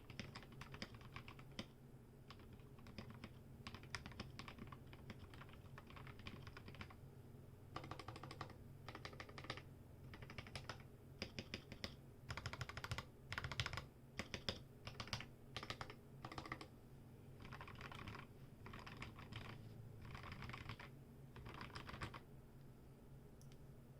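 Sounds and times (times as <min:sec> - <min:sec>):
typing on mechanical keyboard: 0:00.0 - 0:01.7, 0:02.3 - 0:07.0, 0:07.8 - 0:16.7, 0:17.4 - 0:22.2.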